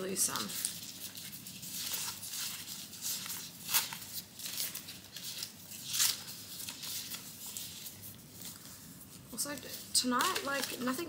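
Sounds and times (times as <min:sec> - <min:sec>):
banknotes rustling and flicking: 0:00.0 - 0:11.0.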